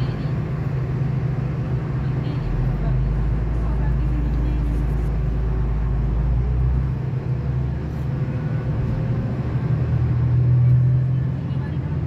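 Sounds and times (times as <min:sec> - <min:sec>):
diesel train engine hum: 0:00.0 - 0:12.0.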